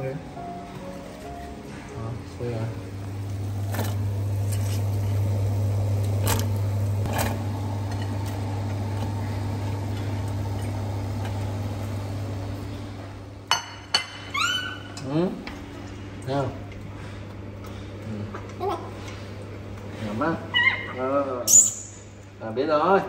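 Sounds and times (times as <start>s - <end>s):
steady low hum: 0.0s - 14.0s, 14.8s - 22.6s.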